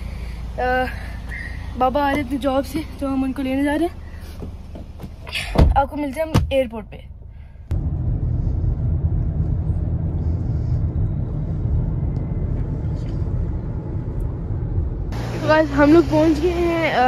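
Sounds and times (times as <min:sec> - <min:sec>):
car interior road rumble: 0:00.0 - 0:17.0.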